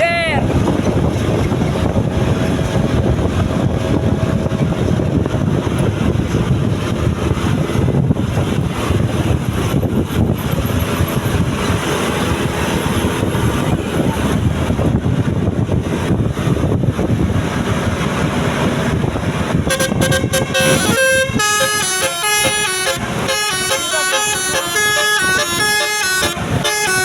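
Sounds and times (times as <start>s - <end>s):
road noise of moving vehicles: 0.0s - 27.0s
wind rushing over microphone: 0.0s - 27.0s.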